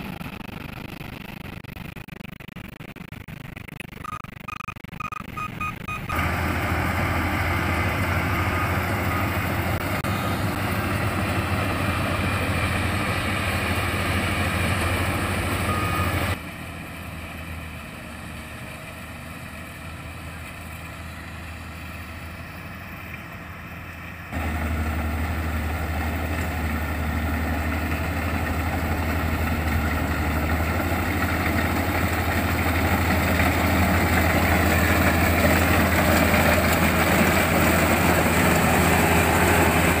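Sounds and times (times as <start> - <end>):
combine harvester engine running: 0.0 - 40.0.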